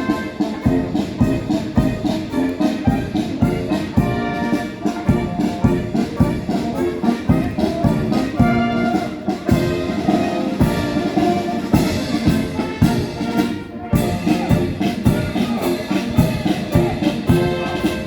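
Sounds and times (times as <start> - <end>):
brass band playing a march: 0.0 - 18.0
steady drum beat: 0.0 - 18.0.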